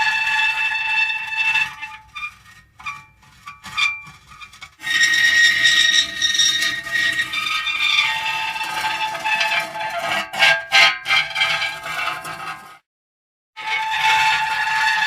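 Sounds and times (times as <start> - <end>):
metal creaking and squealing: 0.0 - 12.8, 13.6 - 15.0.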